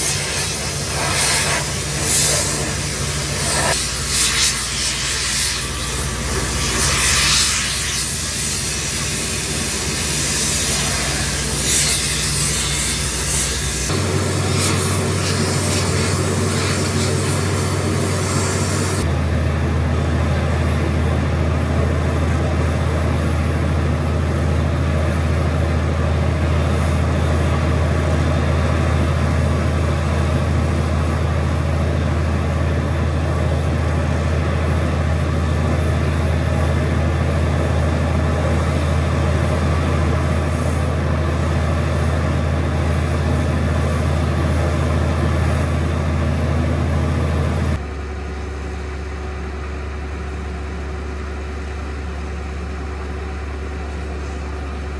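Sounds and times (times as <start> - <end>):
drilling rig engine drone: 0.0 - 54.9.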